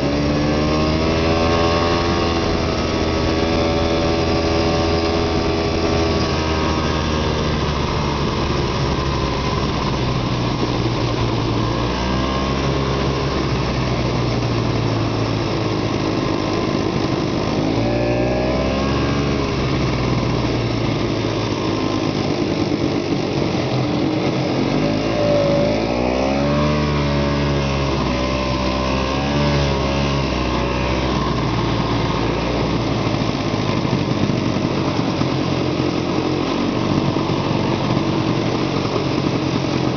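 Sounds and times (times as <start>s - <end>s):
snowmobile engine revving: 0.0s - 39.9s
steady rushing noise: 0.0s - 39.9s.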